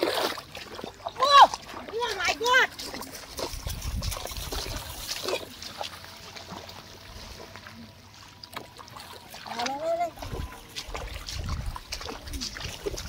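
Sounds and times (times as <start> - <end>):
feet wading through shallow water: 0.0 - 13.0
small water splashes: 0.0 - 13.0.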